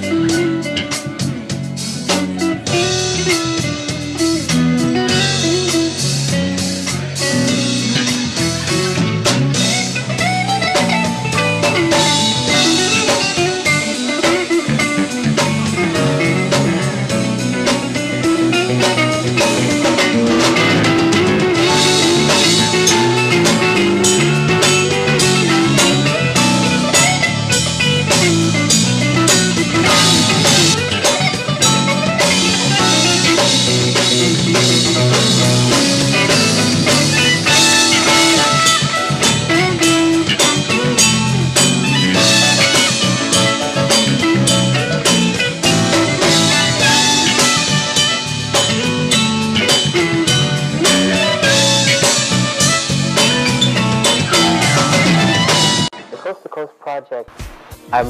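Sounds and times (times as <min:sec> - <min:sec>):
bass notes: 0:00.0 - 0:56.0
lead guitar: 0:00.0 - 0:57.2
drum kit beat: 0:00.0 - 0:58.0
jazz-funk band playing: 0:00.0 - 0:58.0.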